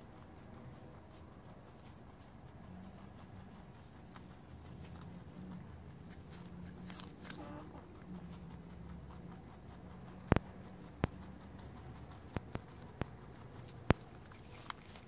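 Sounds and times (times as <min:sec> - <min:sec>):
rabbits chewing radishes: 0:00.0 - 0:15.0.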